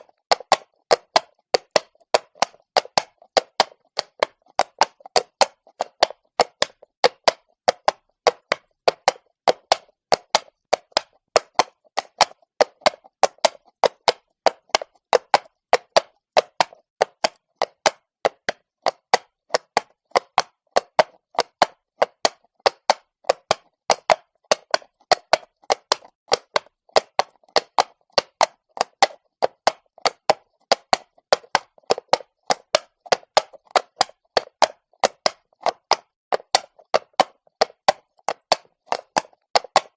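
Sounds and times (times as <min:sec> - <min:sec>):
horse hooves clopping on cobblestone: 0:00.0 - 0:39.9.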